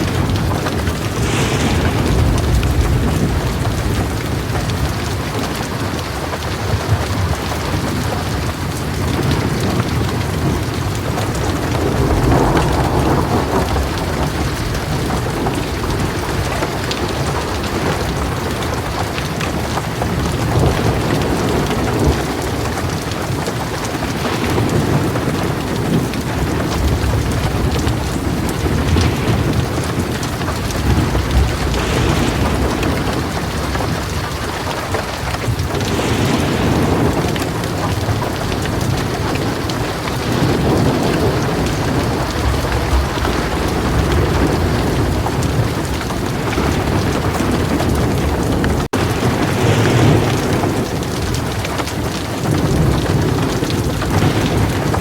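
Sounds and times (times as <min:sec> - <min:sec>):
heavy rain pouring: 0:00.0 - 0:55.0
thunder rumbling: 0:00.0 - 0:55.0.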